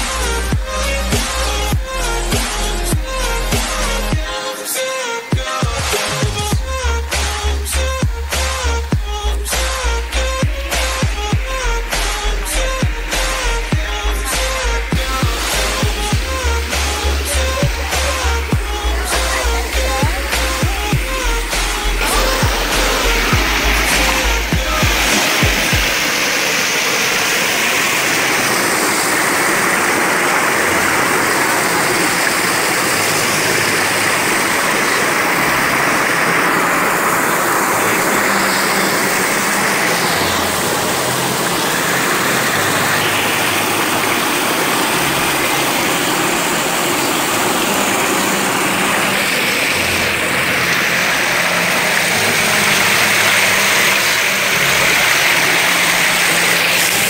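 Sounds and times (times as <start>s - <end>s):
waterfall rushing and splashing: 0.0s - 57.0s.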